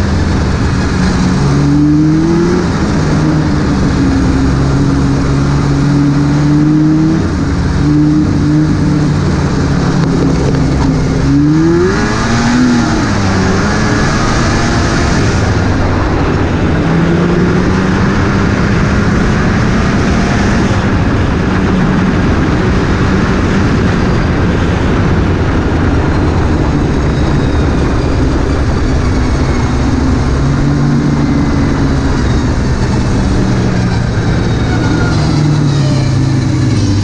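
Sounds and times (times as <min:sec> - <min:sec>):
snowmobile engine running: 0:00.0 - 0:37.0
wind and track noise: 0:00.0 - 0:37.0.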